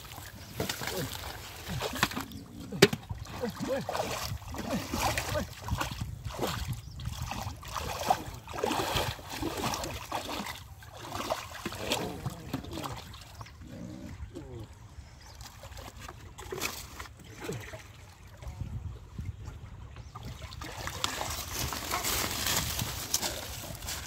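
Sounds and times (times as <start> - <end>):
muddy water splashing and sloshing: 0.0 - 24.0.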